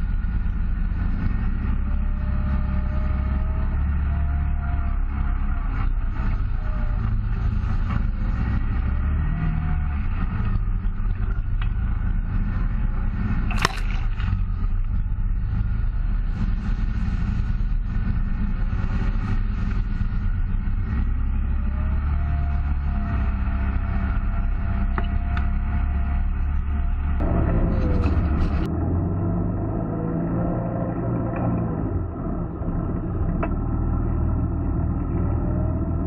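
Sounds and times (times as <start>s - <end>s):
off-road vehicle engine running: 0.0s - 36.0s.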